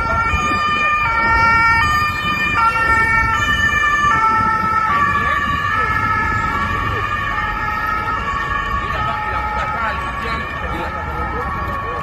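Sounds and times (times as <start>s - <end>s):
ambulance two-tone siren: 0.0s - 12.0s
street noise: 0.0s - 12.0s.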